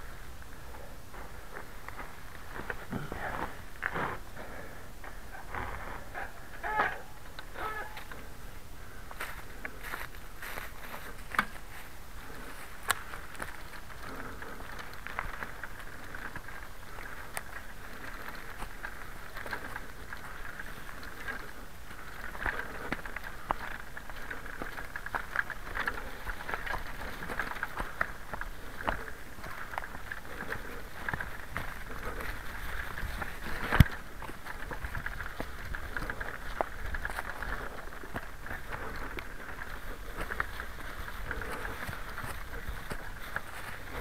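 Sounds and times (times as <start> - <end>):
leaves crackling under tyres: 0.0 - 44.0.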